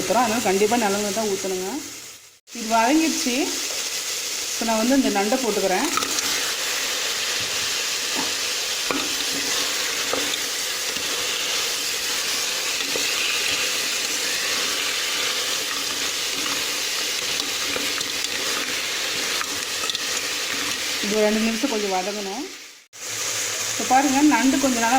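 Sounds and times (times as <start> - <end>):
crab pieces sizzling in oil: 0.0 - 24.9.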